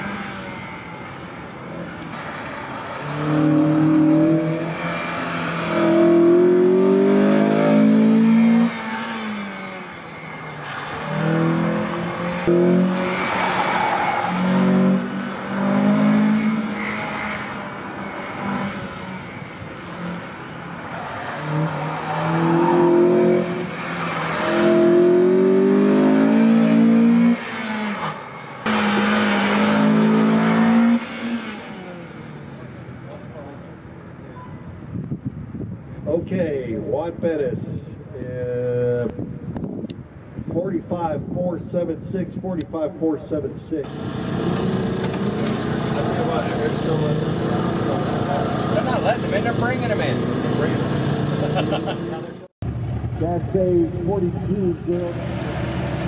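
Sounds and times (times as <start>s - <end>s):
car engine accelerating: 0.0s - 33.8s, 43.8s - 56.0s.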